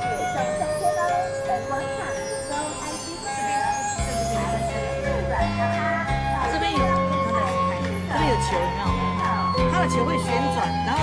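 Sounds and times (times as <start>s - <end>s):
music with long held notes: 0.0s - 11.0s
people talking: 0.0s - 11.0s.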